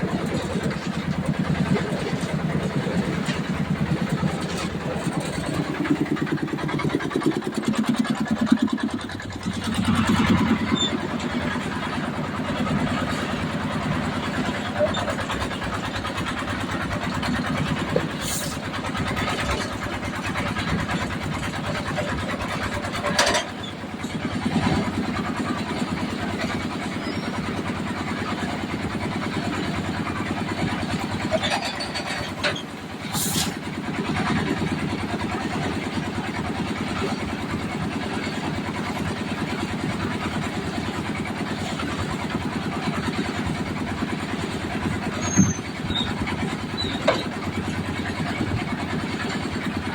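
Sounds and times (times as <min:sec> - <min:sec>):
concrete mixer engine running: 0:00.0 - 0:49.9.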